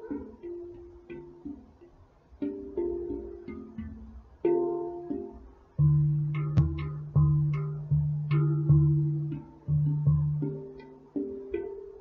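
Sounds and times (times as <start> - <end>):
handpan notes ringing: 0.0 - 12.0.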